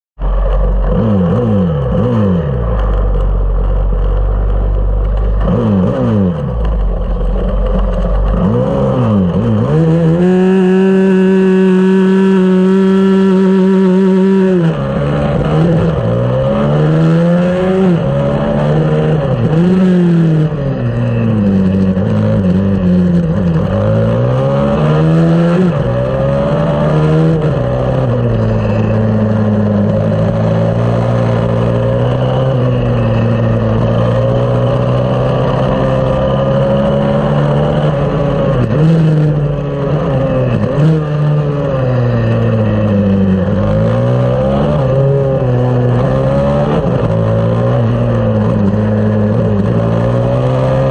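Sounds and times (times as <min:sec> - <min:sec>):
motorbike engine revving: 0:00.2 - 0:50.9.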